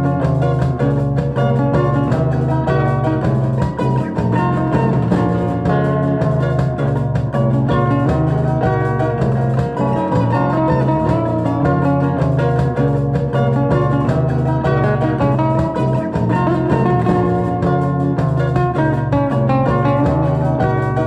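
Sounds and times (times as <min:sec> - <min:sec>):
plucked guitar instrumental music: 0:00.0 - 0:21.0.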